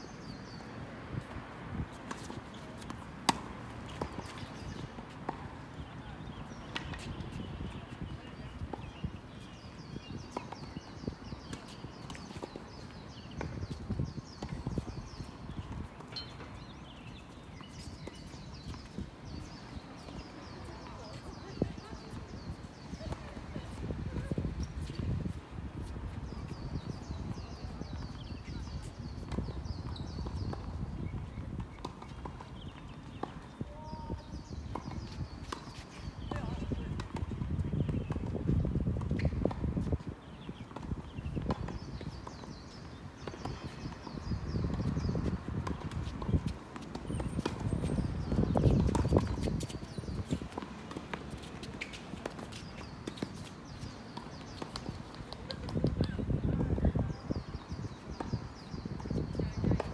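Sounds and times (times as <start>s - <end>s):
shoes squeaking on court: 0.1s - 56.4s.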